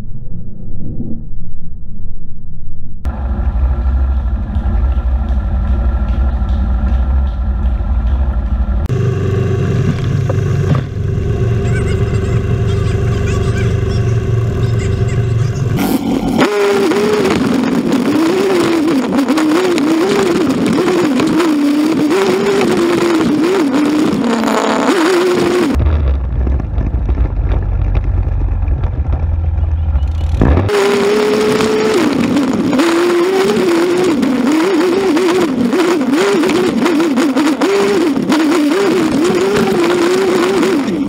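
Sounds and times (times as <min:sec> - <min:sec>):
rushing noise: 0:00.0 - 0:34.8
quad bike engine revving: 0:03.1 - 0:41.0.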